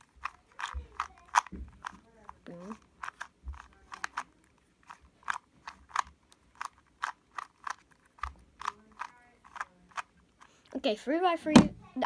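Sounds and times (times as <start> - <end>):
puzzle cube plastic clicks: 0.0 - 10.7.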